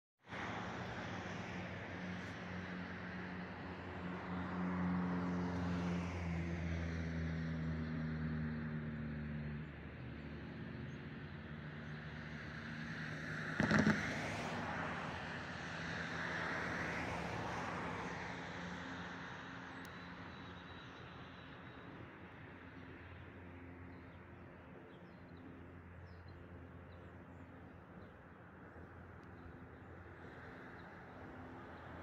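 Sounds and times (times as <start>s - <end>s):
traffic noise: 0.3s - 32.0s.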